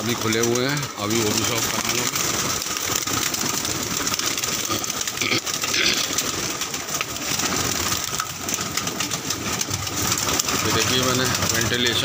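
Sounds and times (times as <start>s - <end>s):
pigeons cooing: 0.0s - 12.0s
wings fluttering: 0.0s - 12.0s.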